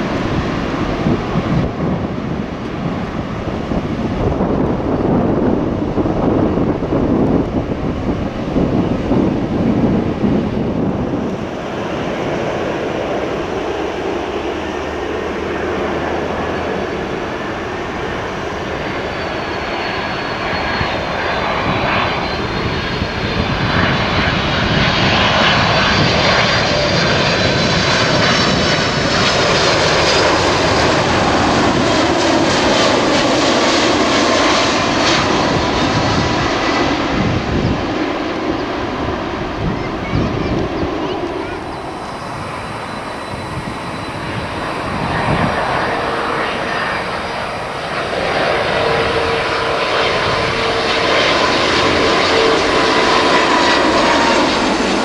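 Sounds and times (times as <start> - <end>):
jet engine whine on approach: 0.0 - 55.0
jet rumble on runway: 0.0 - 55.0.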